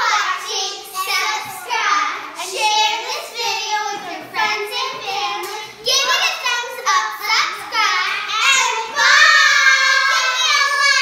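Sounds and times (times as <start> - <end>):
children singing and shouting: 0.0 - 11.0.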